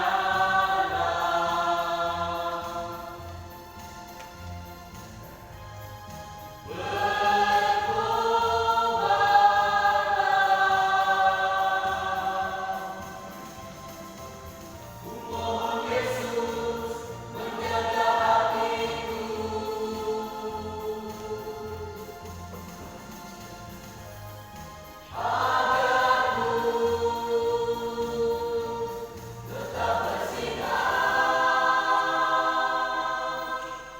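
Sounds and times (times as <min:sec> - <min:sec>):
backing music with low beat: 0:00.0 - 0:33.9.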